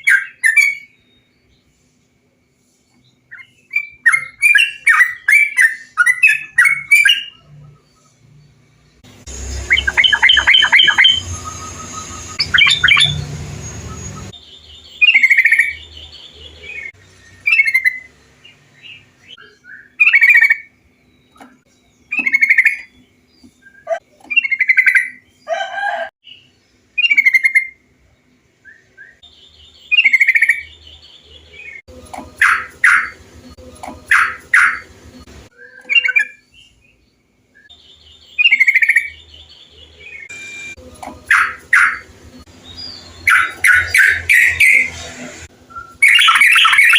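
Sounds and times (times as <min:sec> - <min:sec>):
bulbul chirping song: 0:03.0 - 0:25.6, 0:26.2 - 0:45.0, 0:45.7 - 0:46.9.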